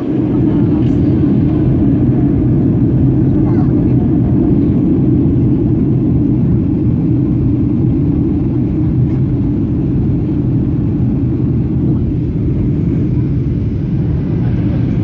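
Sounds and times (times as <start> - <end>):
airflow over airplane fuselage: 0.0 - 15.0
jet engines droning: 0.0 - 15.0.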